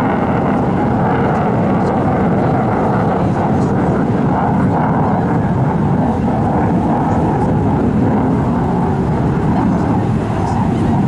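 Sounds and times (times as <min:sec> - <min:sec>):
aircraft rumble in flight: 0:00.0 - 0:11.0.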